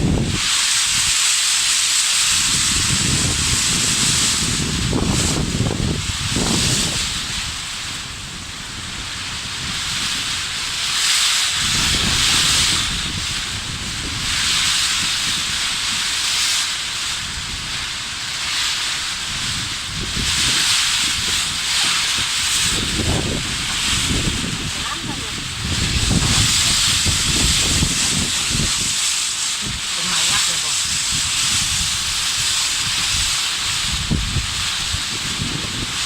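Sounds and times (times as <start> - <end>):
wind buffeting microphone: 0.0 - 1.1, 2.3 - 36.0
storm wind gusting: 0.0 - 1.2, 2.1 - 36.0.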